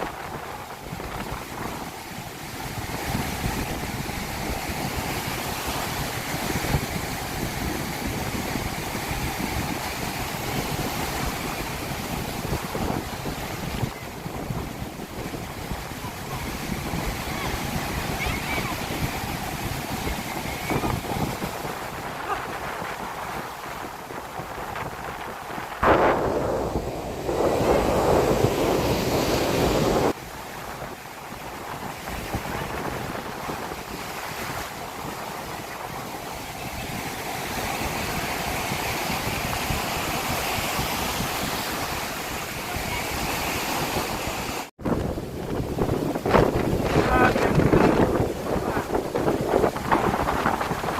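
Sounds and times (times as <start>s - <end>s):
sea waves washing onto beach: 0.0s - 50.9s
wind buffeting microphone: 0.0s - 50.9s.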